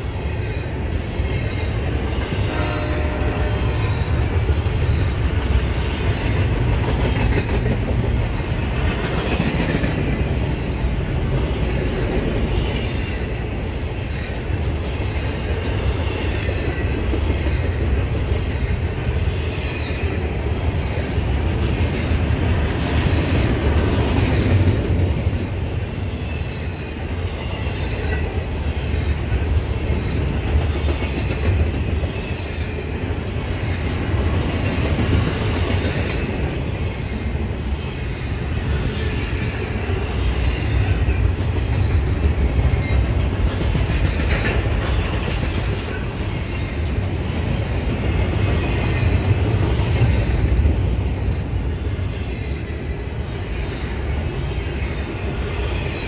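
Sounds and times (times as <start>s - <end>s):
freight train wheels rumbling: 0.0s - 56.0s
clickety-clack of wheels: 1.2s - 56.0s.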